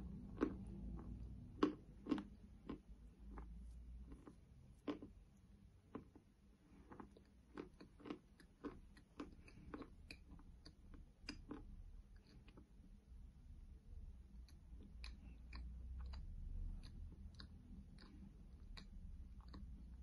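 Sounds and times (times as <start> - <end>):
person chewing crunchy chalk: 0.0 - 5.2, 5.9 - 12.7, 14.4 - 20.0.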